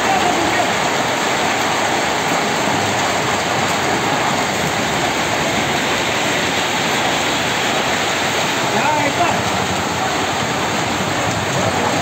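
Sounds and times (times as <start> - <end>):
hail and rain on pavement: 0.0 - 12.0.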